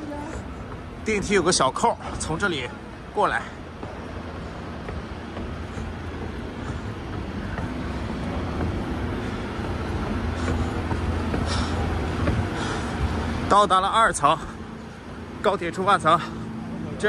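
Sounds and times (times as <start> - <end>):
escalator humming: 0.0 - 17.0.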